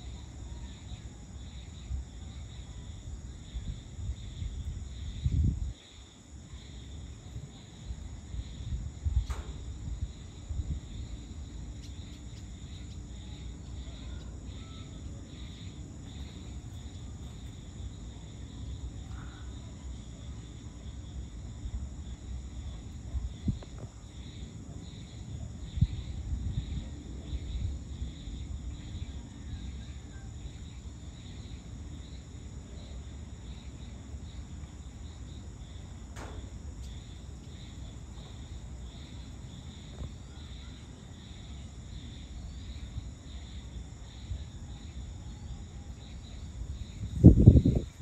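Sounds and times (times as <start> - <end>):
high steady insect tones: 0.0 - 48.0
insects chirring: 0.0 - 48.0
low rumble of wind or traffic: 0.0 - 48.0.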